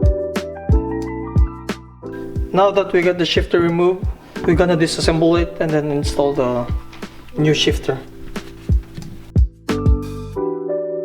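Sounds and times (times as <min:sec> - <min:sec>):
electric piano chords: 0:00.0 - 0:11.0.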